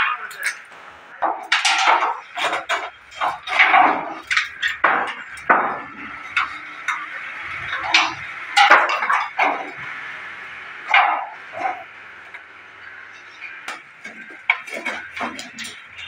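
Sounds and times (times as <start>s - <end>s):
steel props clanking: 0.0s - 16.0s
wooden boards knocking and scraping: 1.2s - 10.1s, 10.7s - 12.5s, 13.1s - 16.0s.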